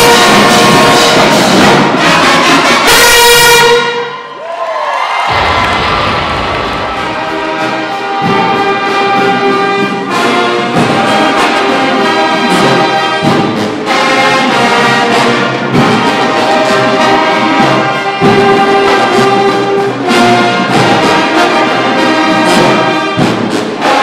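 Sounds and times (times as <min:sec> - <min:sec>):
marching band brass chords: 0:00.0 - 0:04.3, 0:05.2 - 0:24.0.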